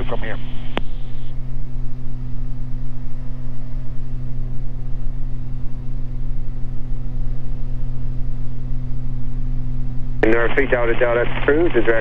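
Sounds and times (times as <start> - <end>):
airplane engines droning: 0.0 - 12.0.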